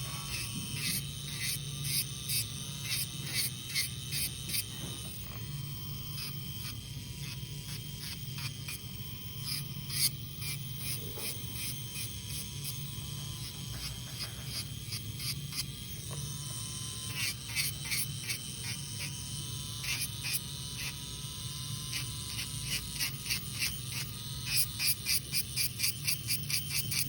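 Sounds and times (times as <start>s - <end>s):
bit scratching nail: 0.0s - 4.7s, 6.0s - 15.7s, 17.0s - 19.2s, 19.8s - 21.0s, 21.8s - 27.0s
electric nail file whining: 0.0s - 27.0s.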